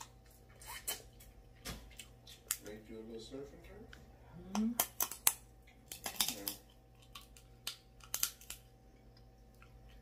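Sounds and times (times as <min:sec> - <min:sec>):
eating clicks and smacks: 0:00.0 - 0:02.8, 0:03.9 - 0:10.0.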